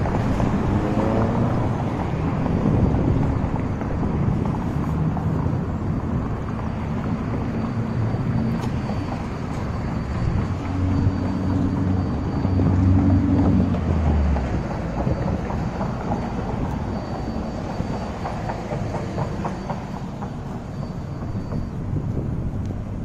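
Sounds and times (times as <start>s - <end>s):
passing traffic and tyres: 0.0s - 23.0s
vehicle engine passing close: 0.0s - 23.0s.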